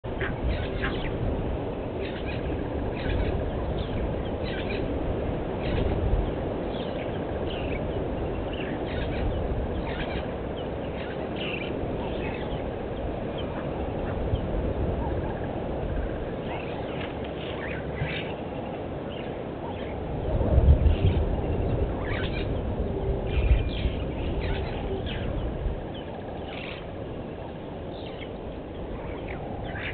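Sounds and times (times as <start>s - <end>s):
birds calling: 0.0s - 29.9s
low rumbling: 0.0s - 29.9s
outdoor ambience: 0.0s - 29.9s.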